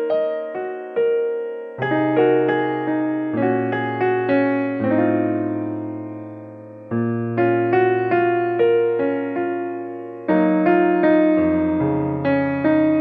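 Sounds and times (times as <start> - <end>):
gentle keyboard melody: 0.0 - 13.0.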